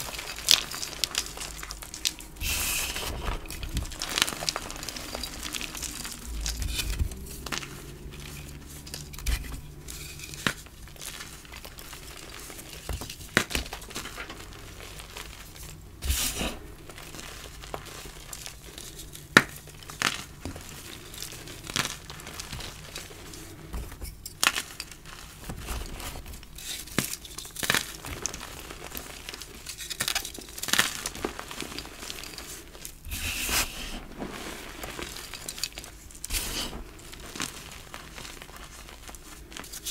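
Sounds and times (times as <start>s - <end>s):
chalk crunching and crackling: 0.0s - 39.9s.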